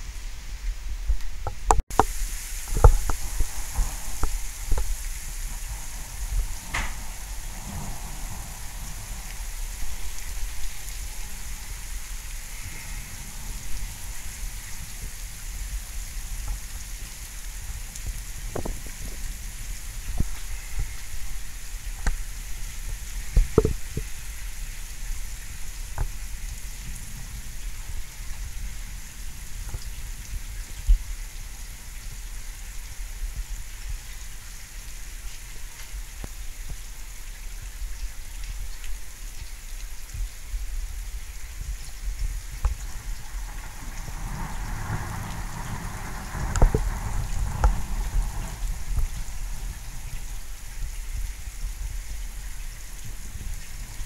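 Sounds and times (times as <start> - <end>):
steady rain: 0.0 - 54.0
sharp taps of raindrops: 0.6 - 13.0, 13.6 - 54.0.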